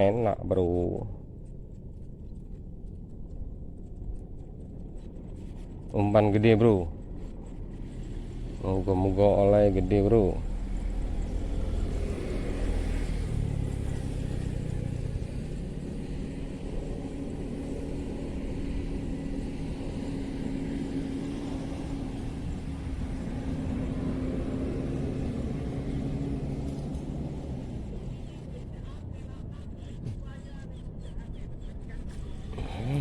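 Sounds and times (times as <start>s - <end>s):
engine rumbling: 0.0s - 33.0s.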